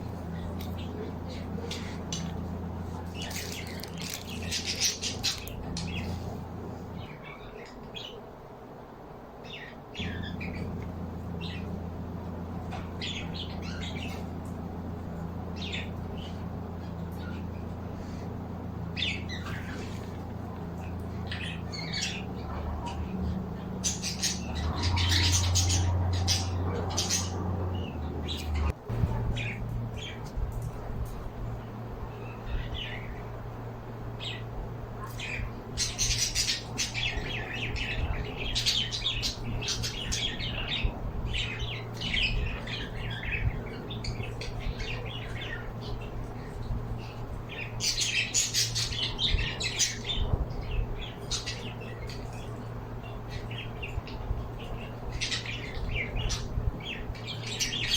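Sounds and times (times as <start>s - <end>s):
pet birds squawking and chirping: 0.0s - 8.3s, 9.4s - 31.1s, 31.7s - 57.9s
steady low hum: 0.0s - 57.9s.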